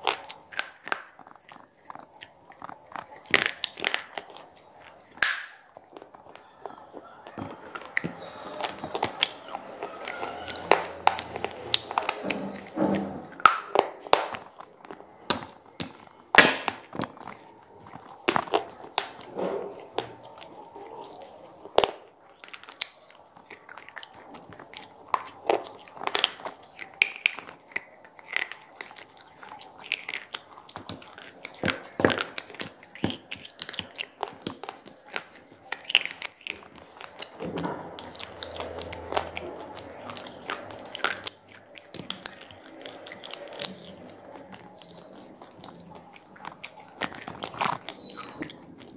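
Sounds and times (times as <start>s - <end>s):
slate crunching between teeth: 0.0s - 48.9s.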